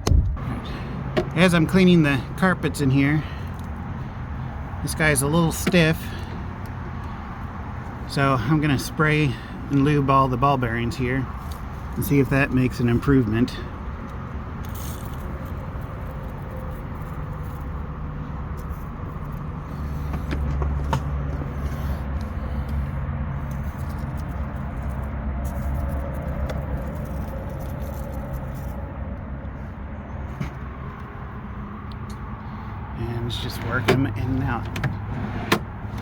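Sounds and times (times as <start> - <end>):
low engine-like rumble: 0.0 - 36.0.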